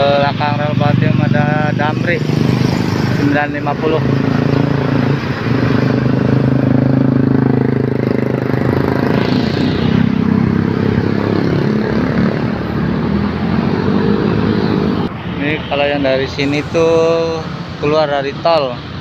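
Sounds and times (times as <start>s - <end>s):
cars going by: 0.0s - 19.0s
motorcycles passing: 0.0s - 19.0s.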